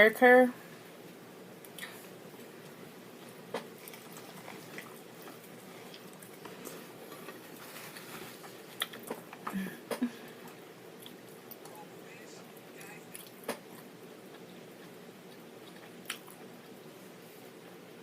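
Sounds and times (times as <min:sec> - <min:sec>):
soft chewing: 0:01.0 - 0:18.0.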